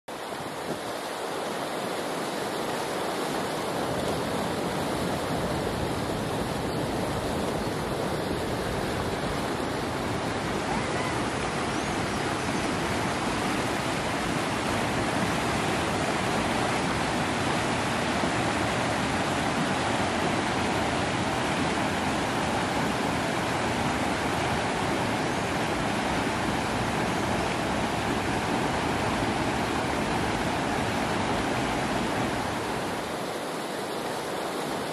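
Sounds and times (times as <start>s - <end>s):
river water rushing: 0.1s - 34.9s.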